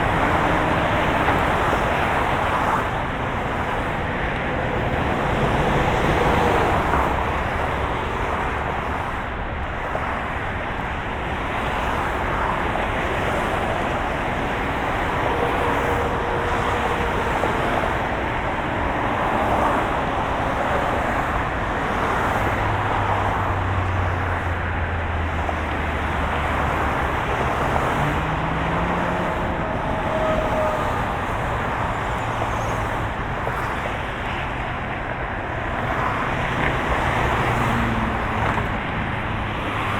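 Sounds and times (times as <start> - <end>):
passing vehicles: 0.0 - 39.9.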